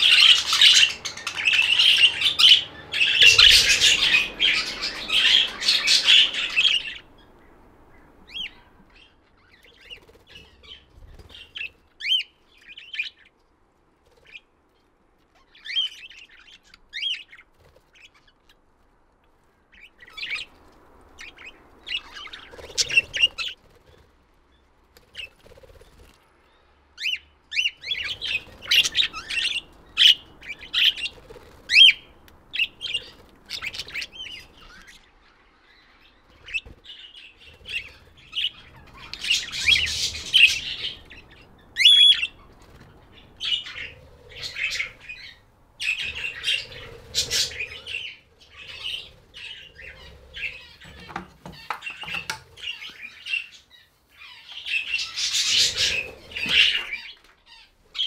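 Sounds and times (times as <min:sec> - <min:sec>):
budgerigars chirping and chattering: 0:00.0 - 0:13.3, 0:15.3 - 0:18.5, 0:19.7 - 0:23.8, 0:27.0 - 0:58.0.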